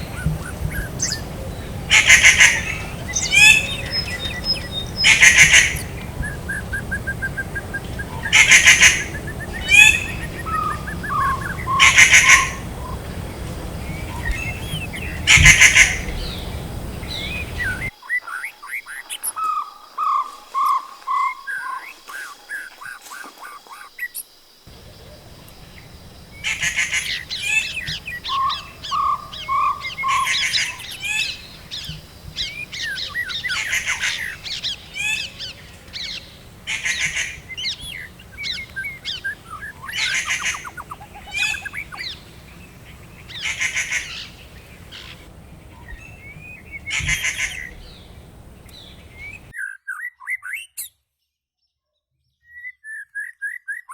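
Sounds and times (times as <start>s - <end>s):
birds chattering: 0.0s - 24.1s, 24.7s - 49.5s
steady background hiss: 0.0s - 49.5s
thin bird chirps: 0.0s - 50.8s.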